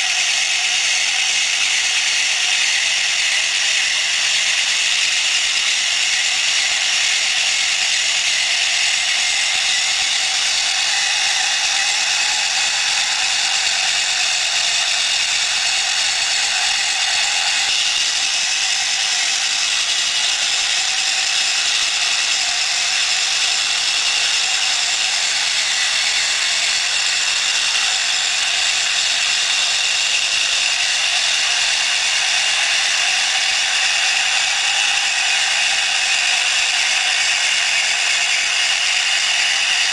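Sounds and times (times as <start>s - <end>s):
model tractor tracks running: 0.0s - 39.9s.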